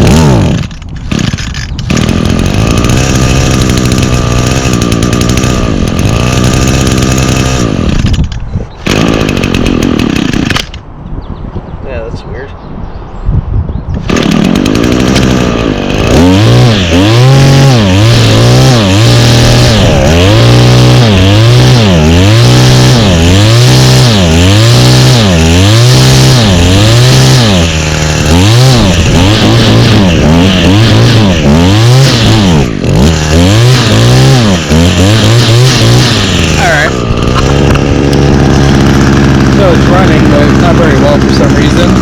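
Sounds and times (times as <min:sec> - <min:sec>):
small engine surging unevenly: 0:00.0 - 0:08.2, 0:08.8 - 0:10.7, 0:14.1 - 0:42.0.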